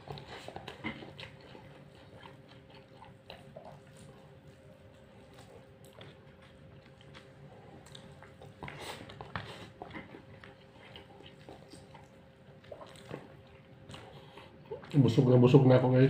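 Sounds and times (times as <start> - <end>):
chewing: 0.0 - 15.7.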